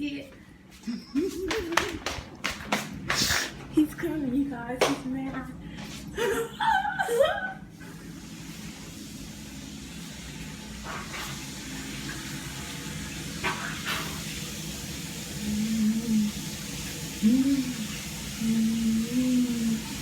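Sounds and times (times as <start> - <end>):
water running: 0.2 - 20.0.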